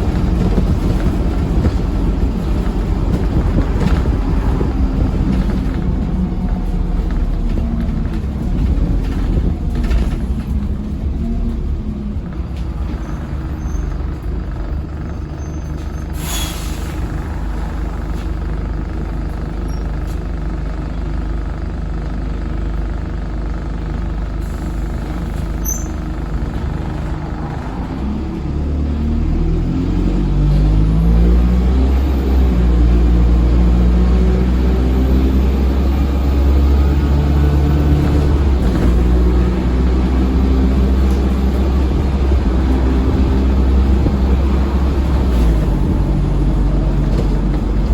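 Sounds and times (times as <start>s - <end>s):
bus engine running: 0.0s - 47.9s
bus pulling away shifting gears: 0.0s - 47.9s.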